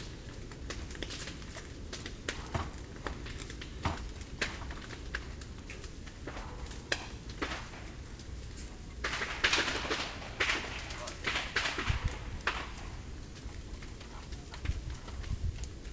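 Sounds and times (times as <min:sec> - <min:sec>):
fire crackling and popping: 0:00.0 - 0:15.9
low rumble of fire: 0:00.0 - 0:15.9.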